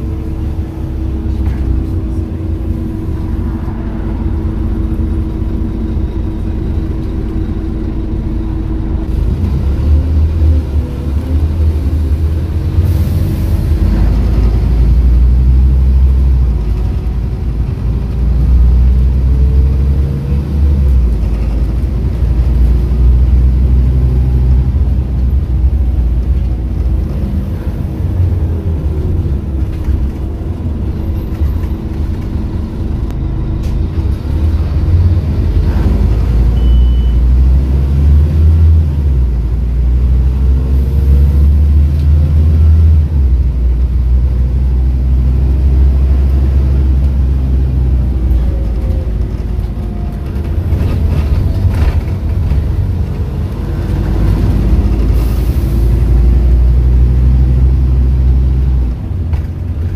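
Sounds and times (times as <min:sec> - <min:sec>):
bus engine rumbling: 0:00.0 - 0:59.9.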